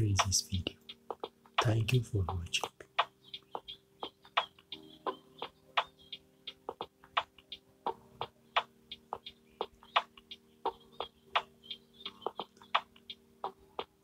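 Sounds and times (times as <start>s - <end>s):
light ticking percussion music: 0.0s - 14.0s.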